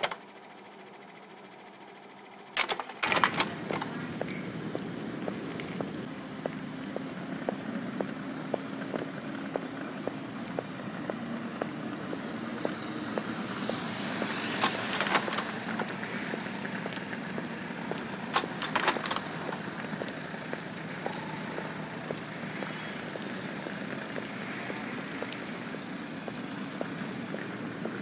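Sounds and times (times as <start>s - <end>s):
footsteps walking: 3.6s - 28.0s.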